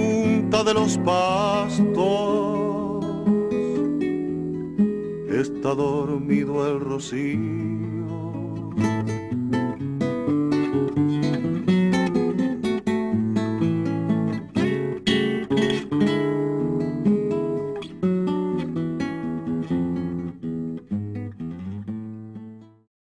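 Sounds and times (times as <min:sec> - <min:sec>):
acoustic guitar music: 0:00.0 - 0:22.9.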